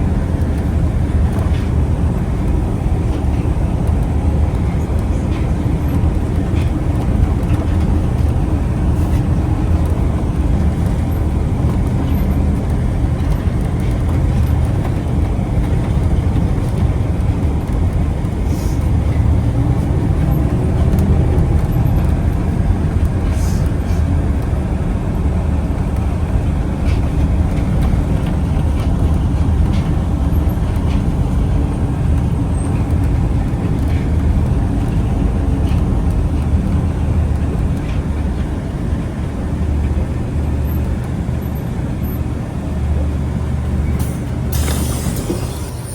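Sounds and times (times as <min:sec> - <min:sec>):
vehicle rumbling: 0:00.0 - 0:45.9.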